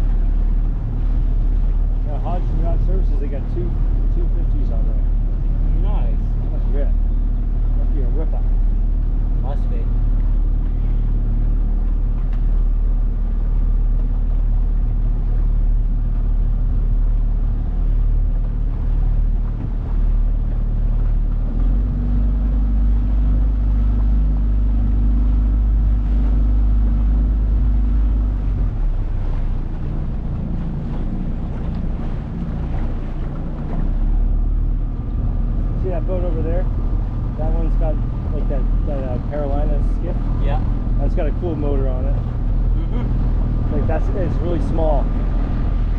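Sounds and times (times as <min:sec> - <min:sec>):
outboard motor running: 0:00.0 - 0:45.9
wind on microphone: 0:00.0 - 0:45.9.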